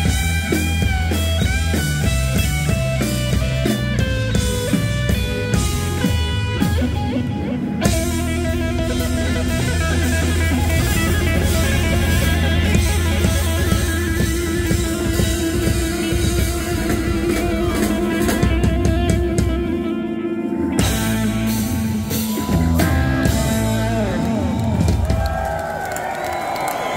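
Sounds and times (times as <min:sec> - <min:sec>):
electric guitar: 0:00.0 - 0:25.6
drum kit: 0:00.0 - 0:25.7.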